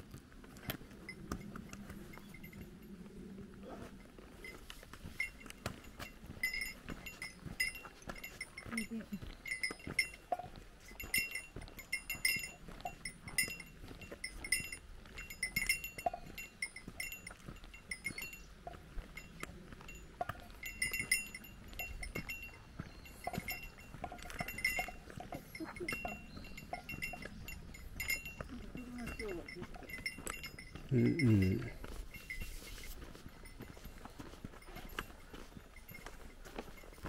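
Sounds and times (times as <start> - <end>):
bear bell jingling: 0.0 - 37.0.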